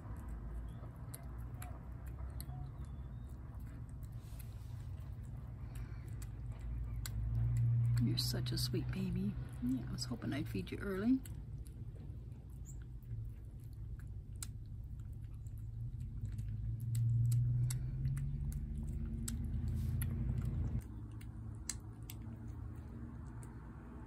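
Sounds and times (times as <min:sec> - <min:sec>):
cat chewing wet food: 0:00.0 - 0:24.0
low hum: 0:00.0 - 0:24.0.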